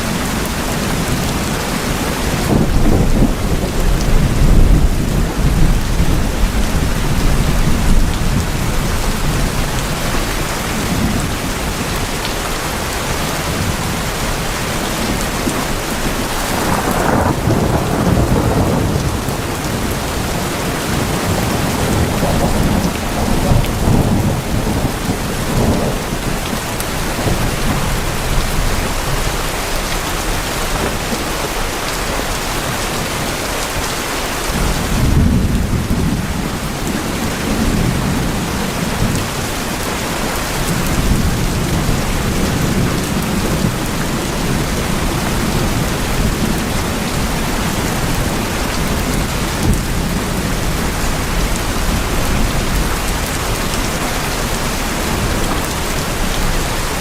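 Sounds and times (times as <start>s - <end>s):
rain on tin roof: 0.0s - 57.0s
thunder rumbling: 0.1s - 31.5s, 34.5s - 57.0s.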